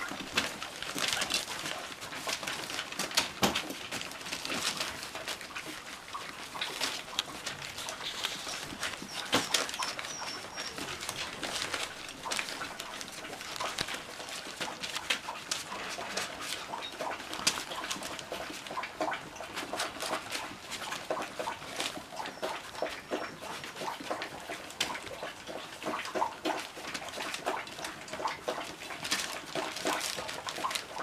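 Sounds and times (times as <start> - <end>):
paws scuffling on paper: 0.0 - 31.0
puppies lapping and chewing: 0.0 - 31.0.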